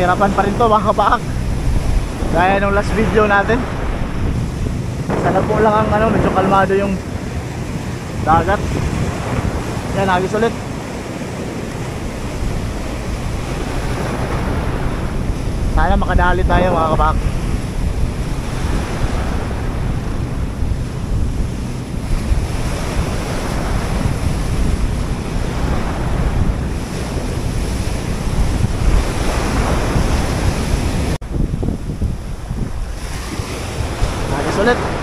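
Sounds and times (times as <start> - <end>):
sea waves breaking on rocks: 0.0 - 35.0
wind buffeting the microphone: 0.0 - 35.0.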